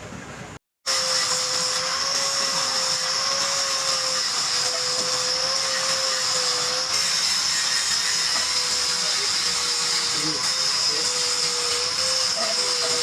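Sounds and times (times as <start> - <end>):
workshop machine whining: 0.9 - 13.0.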